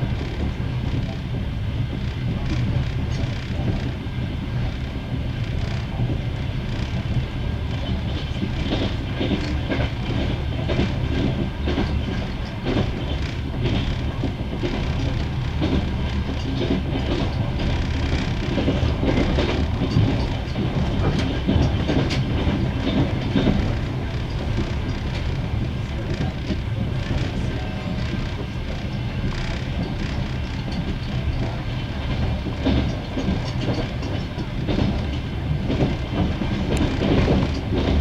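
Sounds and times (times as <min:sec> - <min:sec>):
train wheels clattering over rail joints: 0:00.0 - 0:38.0.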